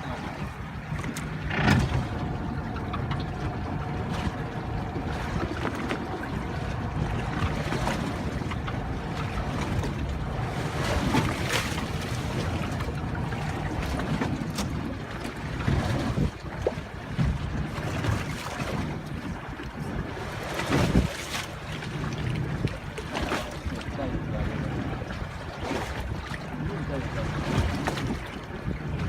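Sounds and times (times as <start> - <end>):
low steady rumble: 0.0 - 29.0
water against boat hull: 0.0 - 29.0
wind on microphone: 0.0 - 29.0.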